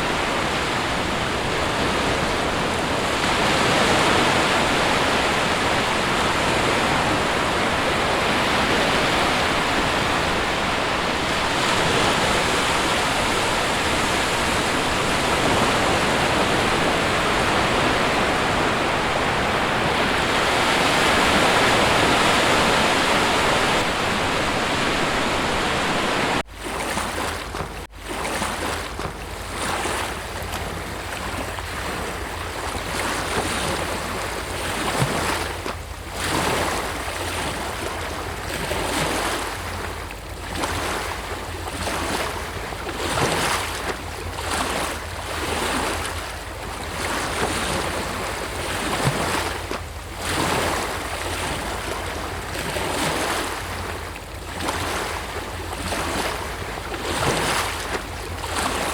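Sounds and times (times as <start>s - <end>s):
sea surf breaking on shore: 0.0s - 58.9s
wind rumble on microphone: 0.0s - 58.9s.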